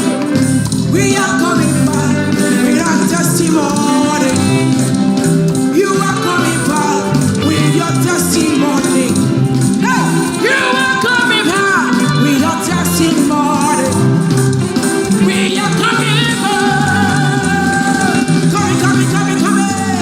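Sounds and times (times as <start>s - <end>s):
upbeat gospel music with singing: 0.0s - 20.0s.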